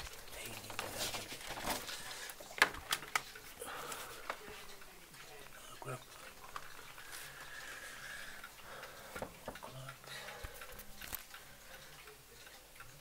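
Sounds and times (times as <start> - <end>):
mechanical clocks ticking: 0.0 - 13.0.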